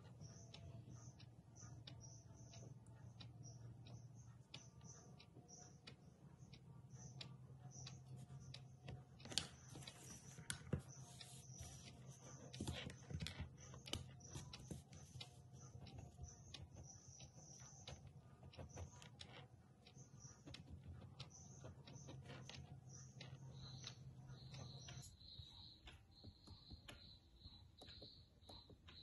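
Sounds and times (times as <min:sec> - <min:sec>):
small clicks and ticks: 0:00.0 - 0:29.0.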